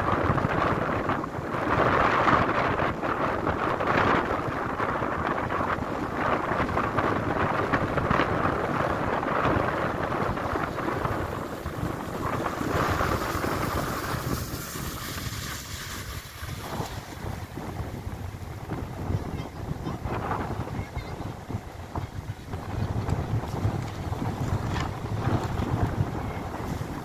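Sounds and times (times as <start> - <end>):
shallow surf washing: 0.0 - 27.0
wind buffeting microphone: 0.0 - 27.0.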